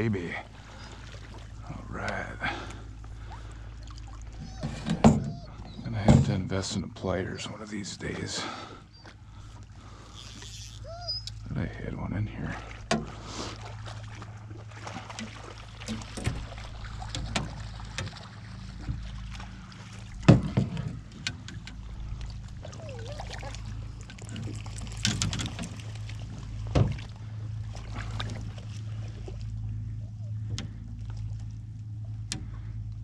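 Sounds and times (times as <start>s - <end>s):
steady low rumble: 0.0s - 10.2s, 10.8s - 33.0s
water splashing and sloshing: 0.0s - 33.0s.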